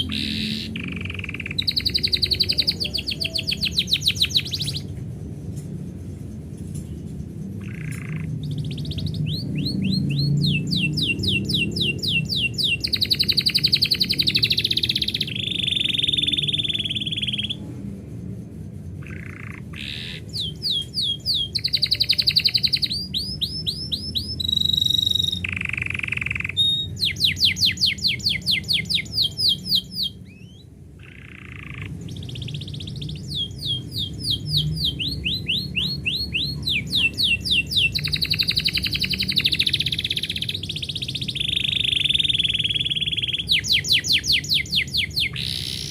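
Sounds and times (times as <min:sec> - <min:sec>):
canary singing trills: 0:00.0 - 0:17.7, 0:18.7 - 0:45.9
low background rumble: 0:00.0 - 0:45.9.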